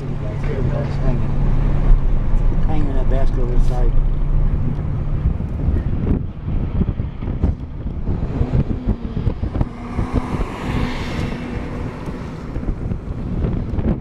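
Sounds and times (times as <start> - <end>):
vehicle and road rumble: 0.0 - 14.0
wind buffeting microphone: 0.0 - 14.0
rush of noise: 0.8 - 14.0.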